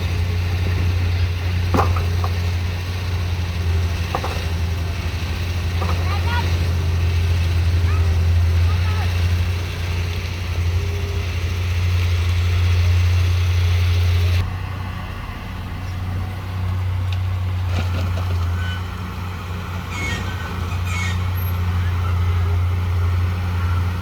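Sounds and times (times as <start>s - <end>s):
diesel machinery engine drone: 0.0s - 24.0s.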